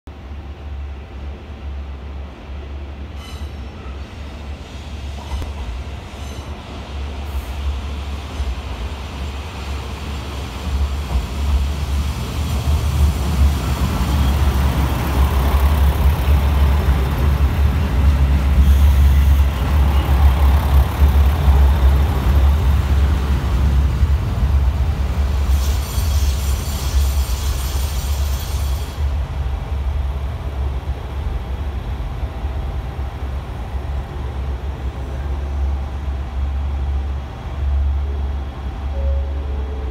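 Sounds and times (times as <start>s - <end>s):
diesel railcar engine rumbling: 0.1s - 39.9s.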